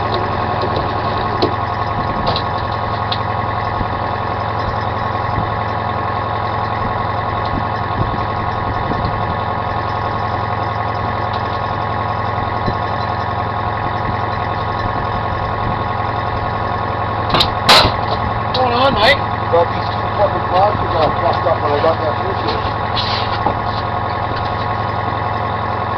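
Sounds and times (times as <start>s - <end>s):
boat engine droning: 0.0s - 25.9s.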